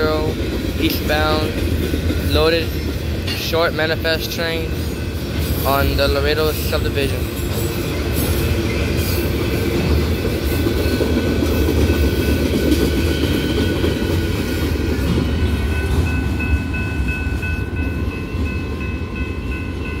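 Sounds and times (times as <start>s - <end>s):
crossing bell ringing: 0.0s - 20.0s
train wheels rumbling on rails: 0.0s - 20.0s.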